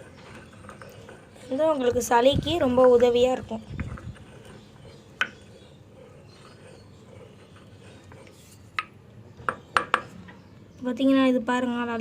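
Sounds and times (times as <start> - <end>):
pestle rubbing in mortar: 0.0 - 10.1.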